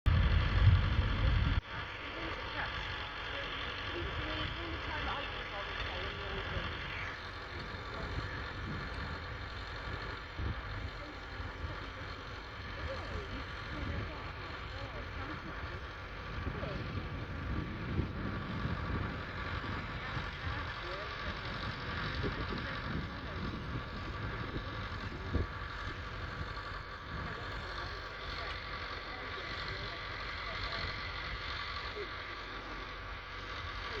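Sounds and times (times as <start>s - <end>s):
tractor diesel engine running: 0.1s - 34.0s.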